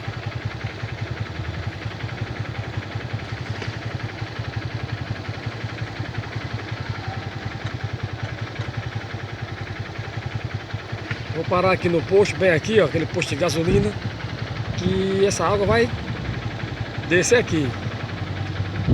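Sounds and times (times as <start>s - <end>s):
vehicle engine running: 0.0s - 18.9s.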